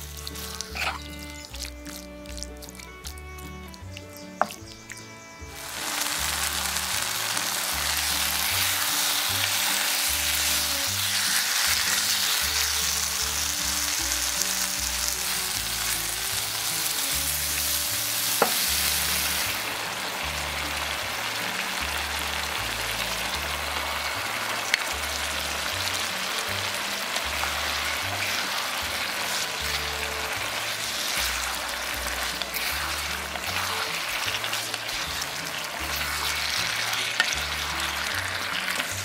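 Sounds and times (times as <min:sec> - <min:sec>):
background music: 0:00.0 - 0:39.0
meat sizzling in a wok: 0:00.0 - 0:39.0.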